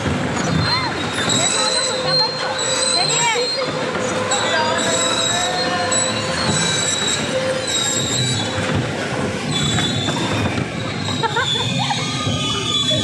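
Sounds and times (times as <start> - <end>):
bumper cars rumbling: 0.0 - 13.0.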